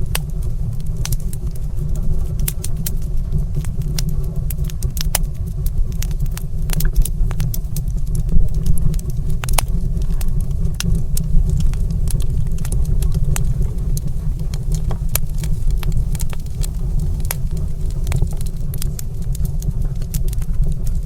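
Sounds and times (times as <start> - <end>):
crackling wood fire: 0.0 - 21.0.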